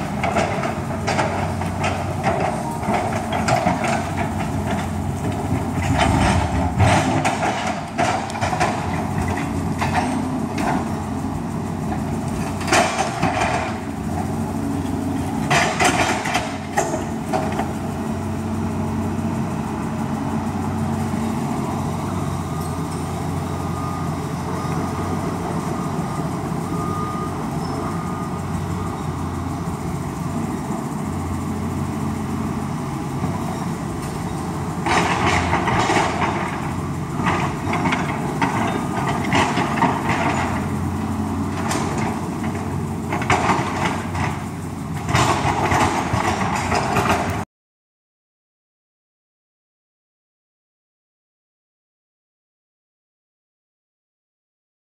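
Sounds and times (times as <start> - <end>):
excavator diesel engine running: 0.0 - 47.5.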